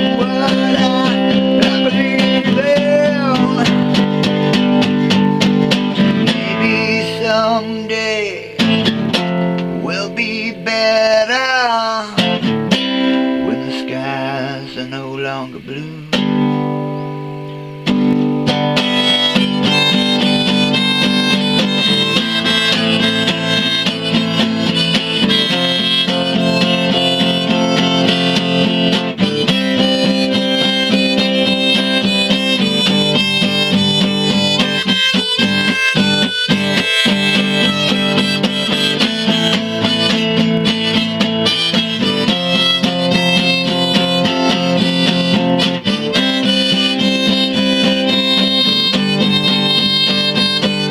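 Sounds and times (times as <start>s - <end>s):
harmonica melody: 0.0s - 50.9s
strummed guitar chords: 0.0s - 50.9s.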